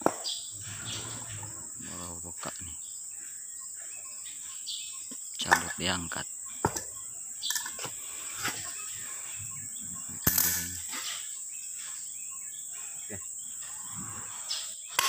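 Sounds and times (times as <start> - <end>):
high-pitched insect drone: 0.4 - 15.0.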